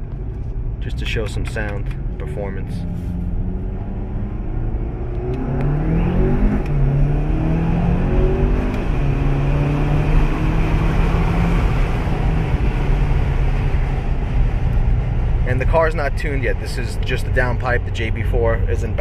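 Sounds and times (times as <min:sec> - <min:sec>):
car engine accelerating hard: 0:02.1 - 0:19.0.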